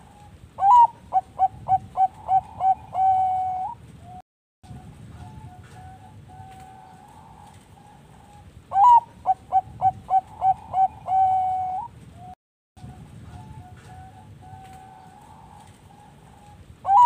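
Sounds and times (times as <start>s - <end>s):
dove song phrase: 0.0s - 3.8s, 4.7s - 12.0s, 12.8s - 17.0s
dove cooing: 0.0s - 12.3s, 13.0s - 17.0s.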